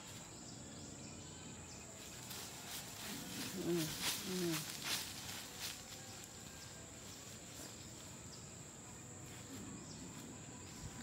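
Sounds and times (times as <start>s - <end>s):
low outdoor background noise: 0.0s - 11.0s.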